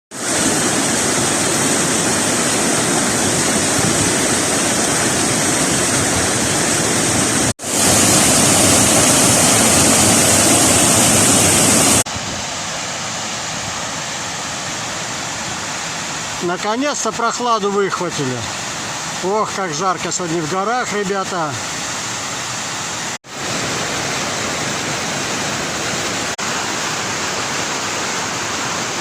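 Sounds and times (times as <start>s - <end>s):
fast-flowing water roaring: 0.1s - 29.0s.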